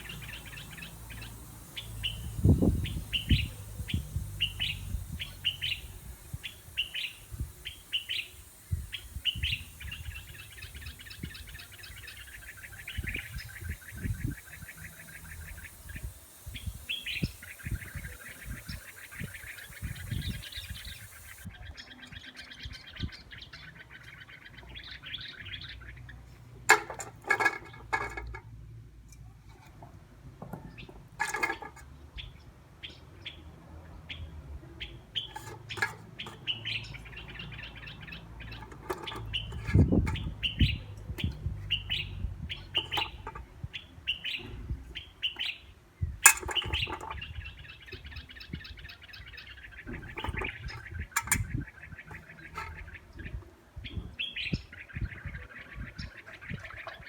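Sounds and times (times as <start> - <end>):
small bird chirping and trilling: 0.0 - 26.4, 34.1 - 57.0.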